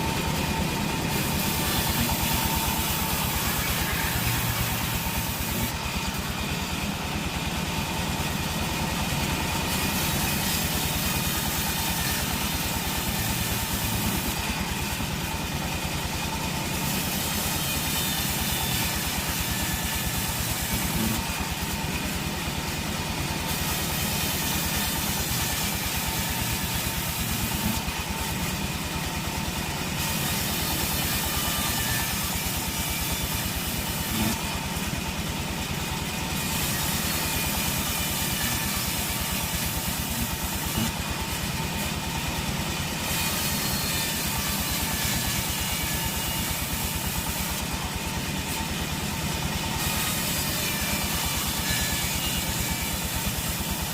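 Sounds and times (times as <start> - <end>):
sawmill machinery droning: 0.0 - 53.9.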